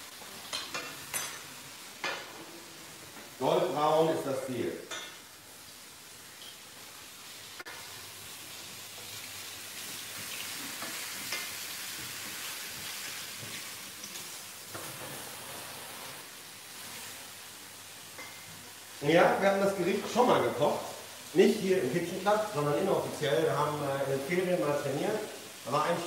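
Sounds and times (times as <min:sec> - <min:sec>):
mushrooms sizzling in a frying pan: 0:00.0 - 0:26.0.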